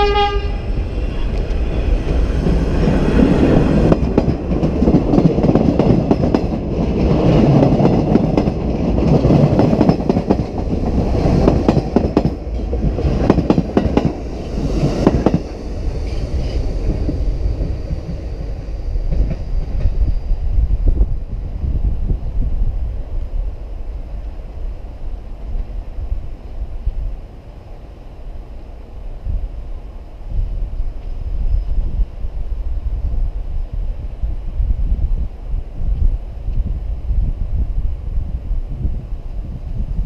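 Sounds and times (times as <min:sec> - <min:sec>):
train wheels rumbling on rails: 0:00.0 - 0:27.8, 0:28.4 - 0:40.0.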